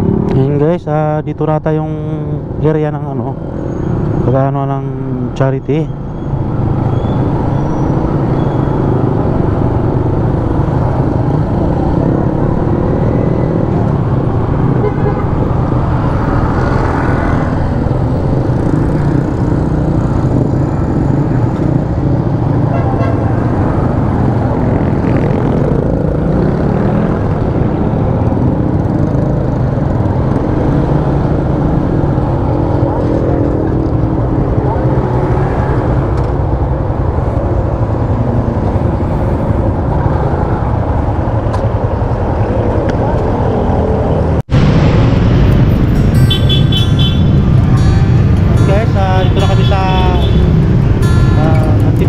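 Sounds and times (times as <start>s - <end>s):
road and wind noise: 0.0s - 52.0s.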